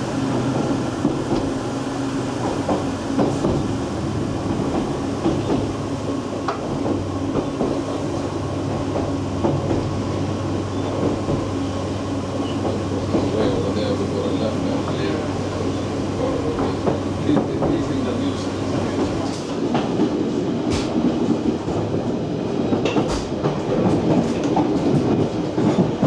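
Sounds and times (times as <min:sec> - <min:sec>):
train engine hum: 0:00.0 - 0:26.0
wheels rumbling on rail: 0:00.0 - 0:26.0.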